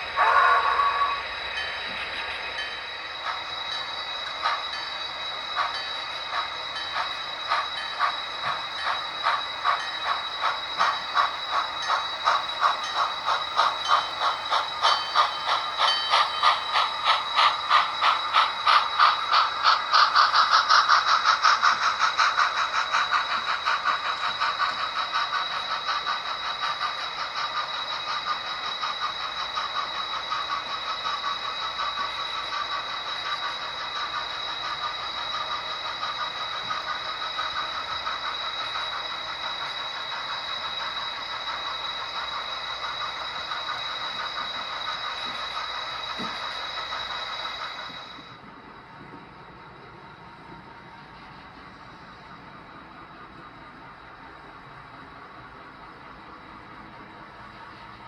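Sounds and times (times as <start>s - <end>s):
model train wheels clicking: 0.0s - 49.3s.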